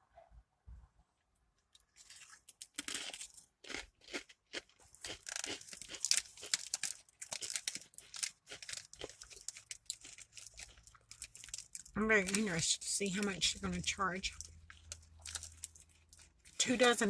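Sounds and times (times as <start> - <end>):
chips crunching: 1.8 - 17.0
chip bag crinkling: 1.9 - 17.0.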